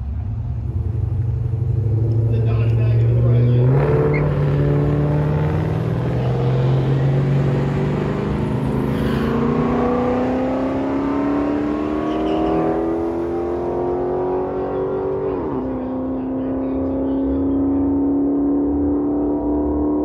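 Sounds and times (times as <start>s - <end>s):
truck engine accelerating: 0.0s - 20.0s.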